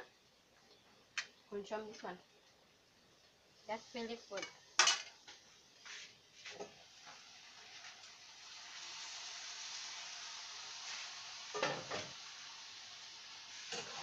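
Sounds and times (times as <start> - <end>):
food sizzling in a pan: 1.0 - 14.0.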